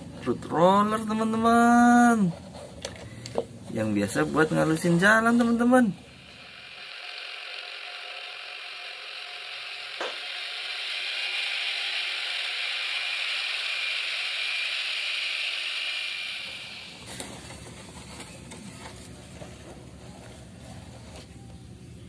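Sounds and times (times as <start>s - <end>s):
road roller hissing and rattling: 1.7s - 21.4s.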